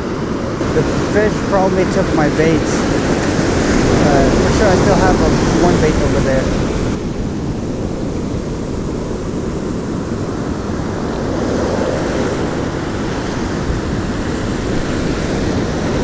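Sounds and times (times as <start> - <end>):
ocean surf washing: 0.0 - 16.0
wind rumble on microphone: 0.0 - 16.0.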